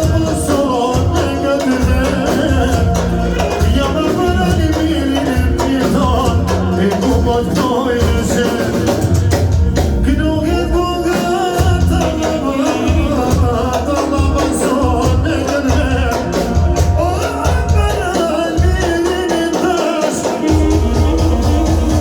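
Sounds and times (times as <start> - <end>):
up-tempo live dance music: 0.0 - 22.0.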